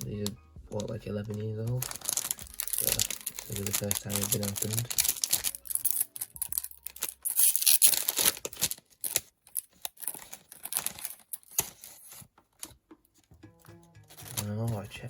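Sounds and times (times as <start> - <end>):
wrapper ripping and crinkling: 0.0 - 12.3
packet crackling: 0.0 - 12.7, 13.6 - 14.9.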